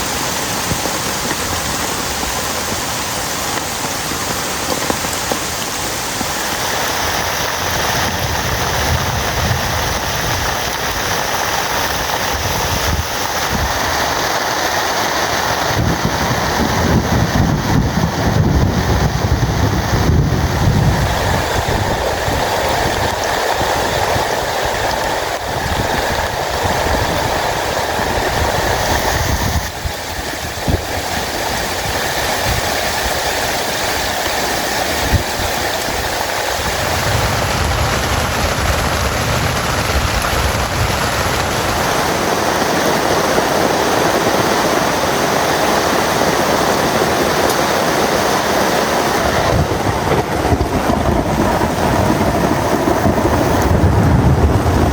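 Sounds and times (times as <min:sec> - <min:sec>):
heavy rain: 0:00.0 - 0:54.9
low rumble of wind: 0:00.0 - 0:54.9.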